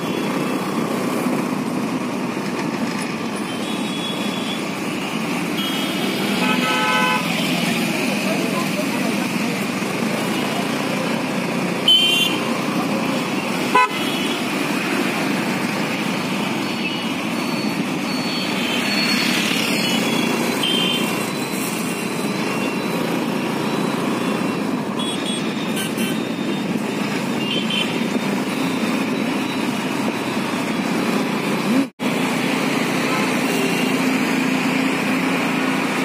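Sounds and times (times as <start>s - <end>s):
motorcycle engine and road noise: 0.0s - 36.0s.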